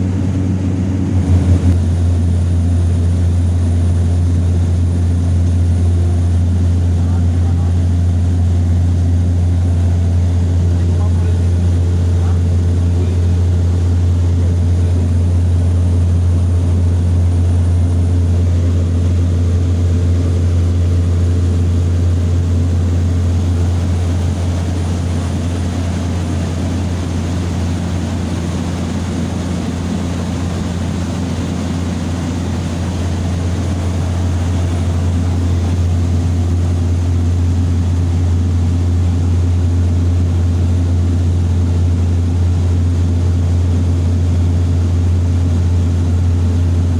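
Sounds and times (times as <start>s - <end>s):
propeller airliner cabin drone: 0.0s - 46.9s.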